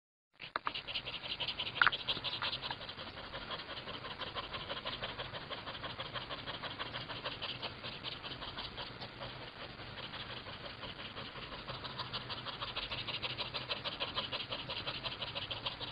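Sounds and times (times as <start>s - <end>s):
cat panting: 0.4s - 15.9s.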